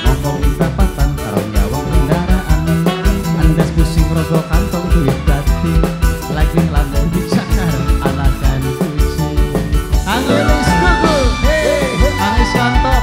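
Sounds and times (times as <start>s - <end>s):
live band playing: 0.0s - 13.0s
steady drum beat: 0.0s - 13.0s.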